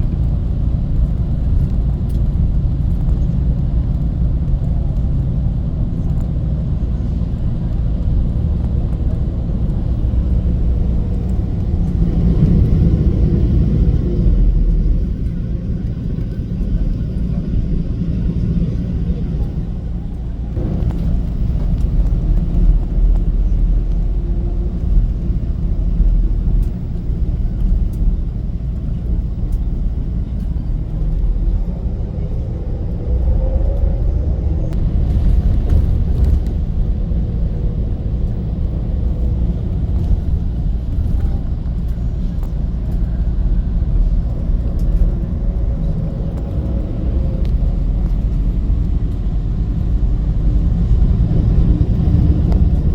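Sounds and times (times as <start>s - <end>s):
bus engine and tyres rumbling: 0.0s - 52.9s.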